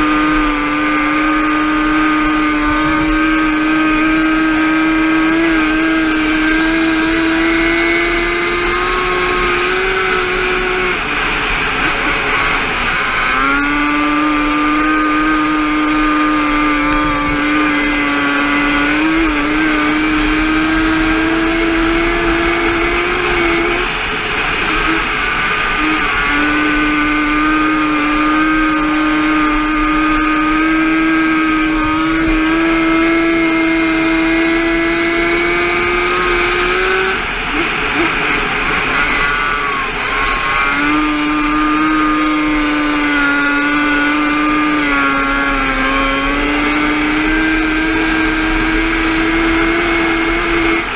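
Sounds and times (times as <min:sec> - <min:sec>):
two-stroke quad engine revving: 0:00.0 - 0:50.9.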